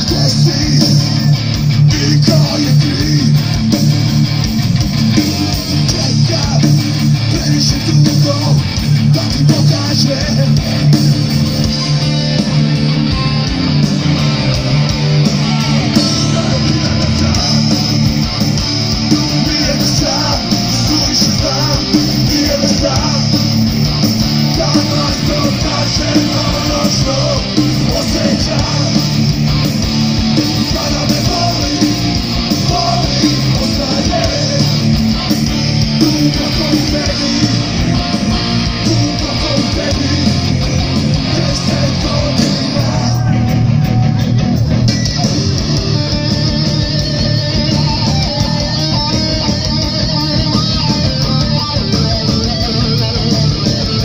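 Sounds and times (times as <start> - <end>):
bass guitar: 0.0 - 54.0
distorted electric guitars: 0.0 - 54.0
drums driving beat: 0.0 - 54.0.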